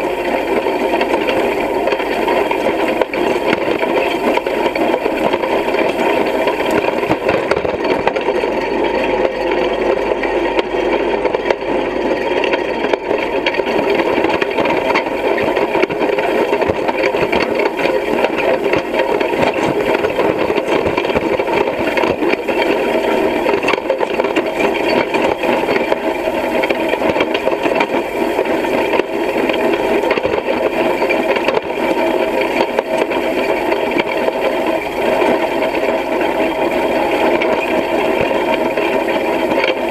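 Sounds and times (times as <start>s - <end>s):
hay rake rattling: 0.0s - 39.9s
tractor engine running: 0.0s - 39.9s.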